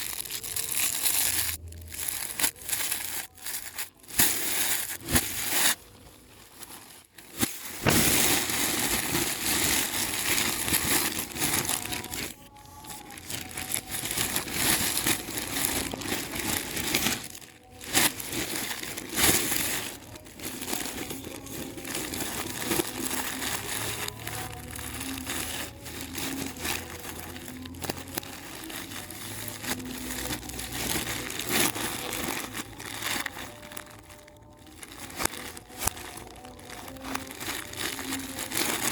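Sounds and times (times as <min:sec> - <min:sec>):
packaging crinkling: 0:00.0 - 0:38.9.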